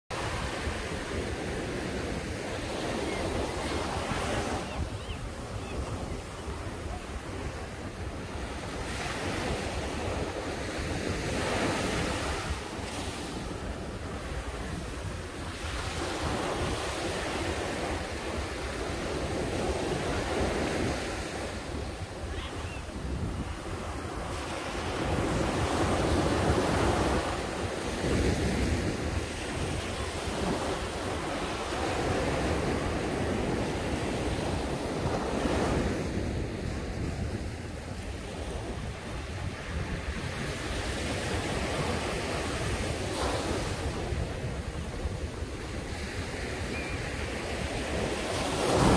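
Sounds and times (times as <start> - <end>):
wind rumbling on microphone: 0.1 - 48.9
sea waves breaking on sand: 7.2 - 48.9.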